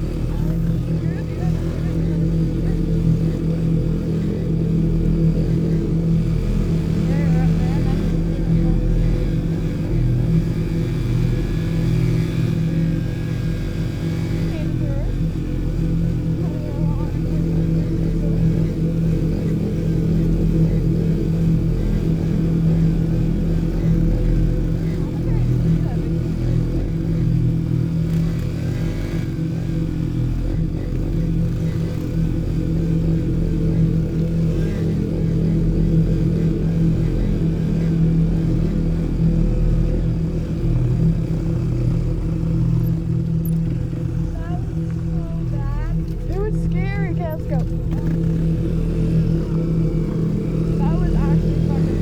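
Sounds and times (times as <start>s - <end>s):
vehicle engine droning: 0.0s - 52.0s.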